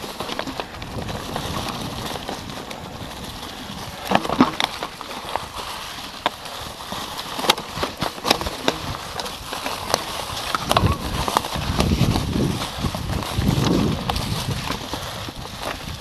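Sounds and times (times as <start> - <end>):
bike knocking over rocks: 0.0 - 16.0
bike tyres rolling over stones: 0.0 - 16.0.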